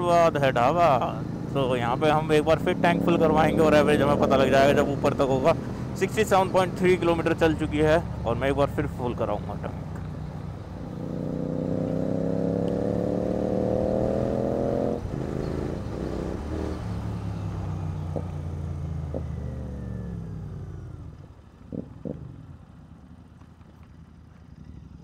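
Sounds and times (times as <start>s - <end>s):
motorcycle engine accelerating: 0.0s - 8.7s, 9.6s - 25.0s.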